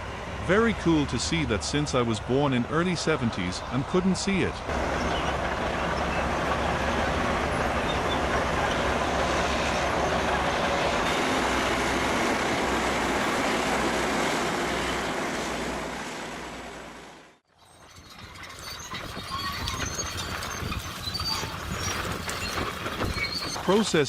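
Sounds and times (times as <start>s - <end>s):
bulldozer engine and tracks: 0.0s - 24.0s.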